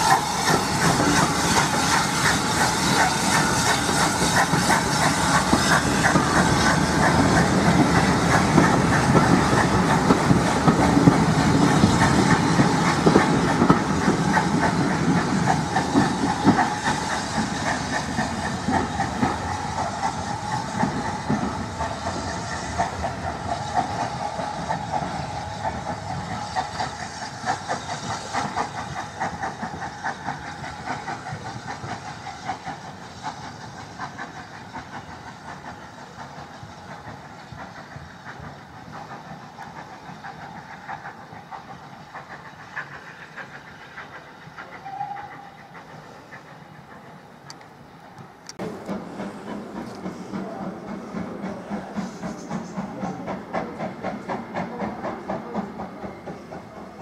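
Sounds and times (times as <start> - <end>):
steam hissing: 0.0 - 57.0
train wheels clicking over rail joints: 0.0 - 57.0.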